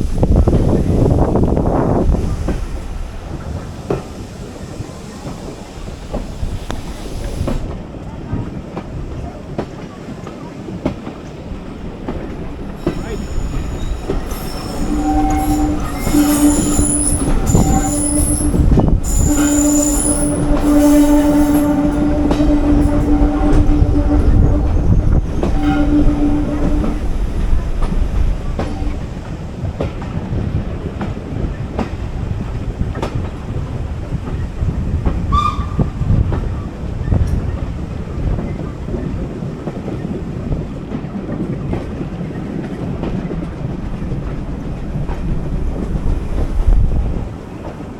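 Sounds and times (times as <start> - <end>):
train rumbling along track: 0.0 - 47.9.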